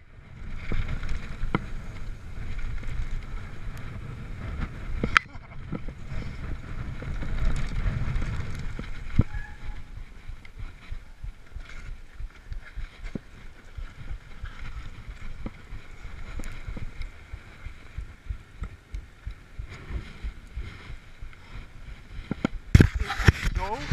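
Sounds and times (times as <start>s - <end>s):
bike rattling over bumps: 0.0s - 23.9s
bike tyre rumble on gravel: 0.0s - 23.9s
wind on microphone: 0.0s - 23.9s.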